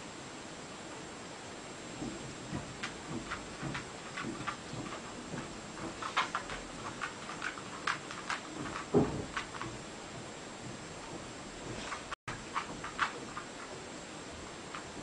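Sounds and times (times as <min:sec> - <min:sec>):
steady background hiss: 0:00.0 - 0:15.0
dog claws clicking and tapping: 0:02.0 - 0:13.8, 0:14.7 - 0:15.0.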